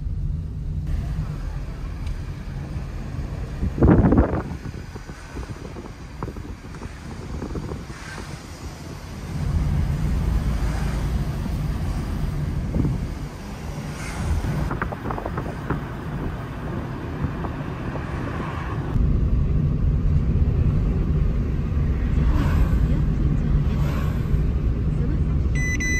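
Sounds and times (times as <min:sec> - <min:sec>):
car road and engine rumble: 0:00.0 - 0:25.9.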